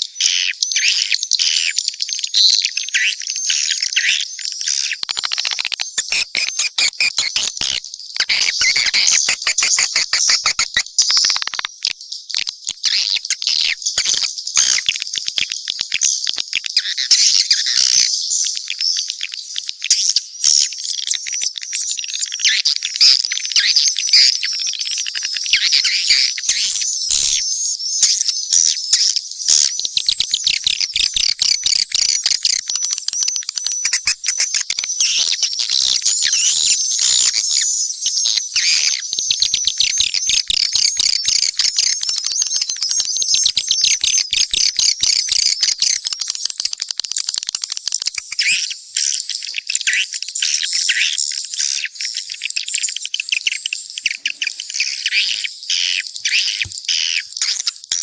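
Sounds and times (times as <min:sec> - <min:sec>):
swiftlets chirping and trilling: 0:03.7 - 0:17.8, 0:19.3 - 0:58.0.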